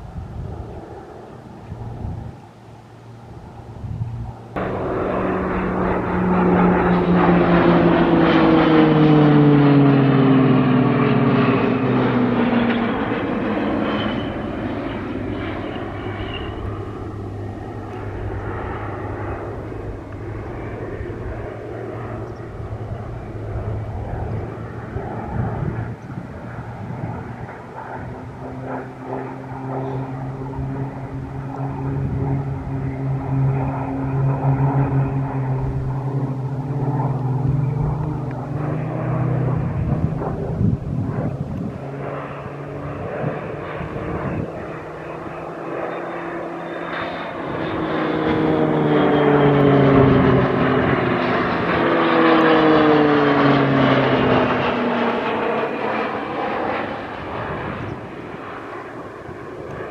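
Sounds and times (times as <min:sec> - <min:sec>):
propeller aircraft flying past: 0:00.0 - 0:59.9
steady propeller tone: 0:00.0 - 0:59.9.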